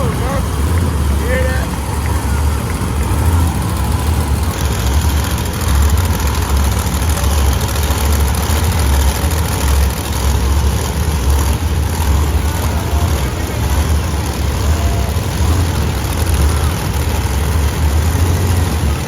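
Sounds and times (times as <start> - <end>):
monster truck engines rumbling: 0.0 - 19.0.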